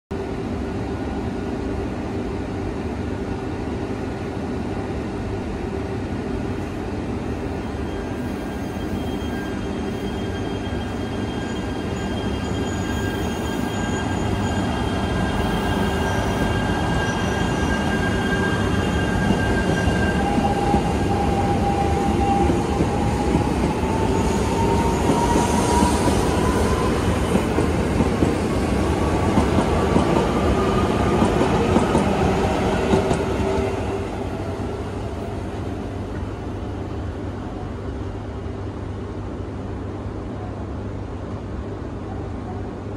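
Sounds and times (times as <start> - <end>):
train running noise: 0.2 - 42.9.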